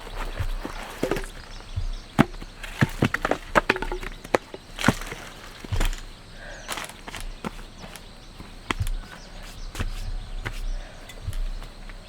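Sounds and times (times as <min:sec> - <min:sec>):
sharp knocks and cracks: 0:00.0 - 0:12.0.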